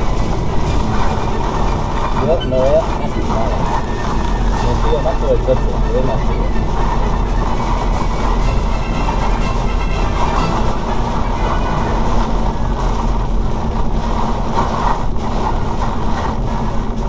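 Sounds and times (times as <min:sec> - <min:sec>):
heavy rain and tyre spray: 0:00.0 - 0:17.0
low car cabin drone: 0:00.0 - 0:17.0.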